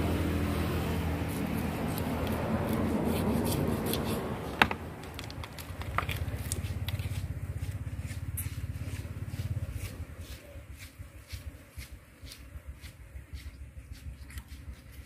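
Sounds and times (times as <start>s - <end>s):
knife cutting through fish: 1.3s - 4.7s, 6.0s - 15.0s.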